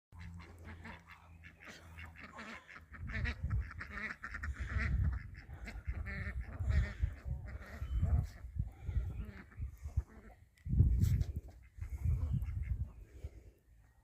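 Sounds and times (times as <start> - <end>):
ducks quacking: 0.2 - 13.4.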